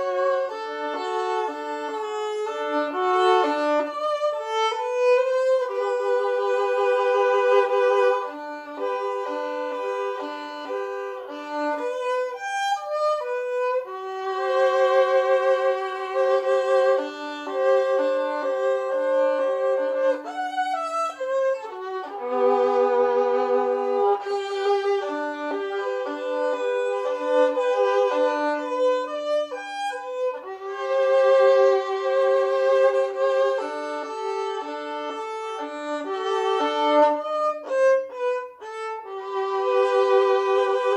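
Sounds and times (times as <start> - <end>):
solo violin melody: 0.0 - 40.9.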